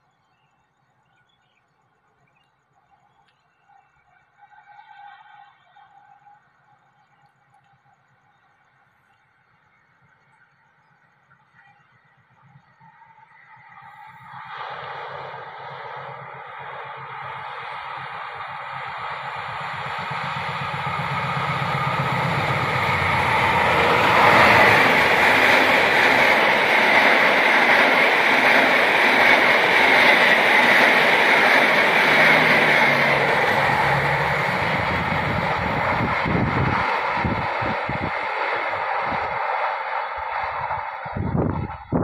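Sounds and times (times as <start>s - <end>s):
wheels rushing on rail: 2.1s - 42.0s
locomotive engine hum: 6.6s - 42.0s.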